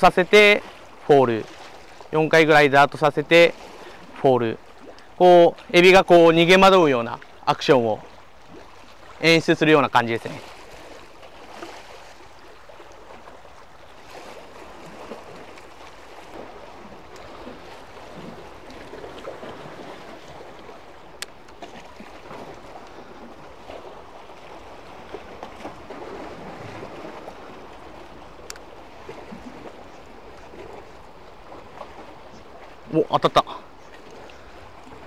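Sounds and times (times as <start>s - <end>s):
waves lapping against concrete: 0.0s - 35.0s.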